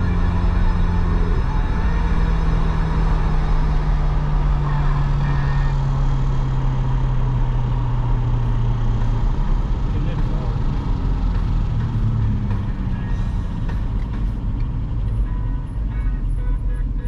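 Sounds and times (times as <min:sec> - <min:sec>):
car engine drone from cabin: 0:00.0 - 0:17.0
road and tyre noise: 0:00.0 - 0:17.0.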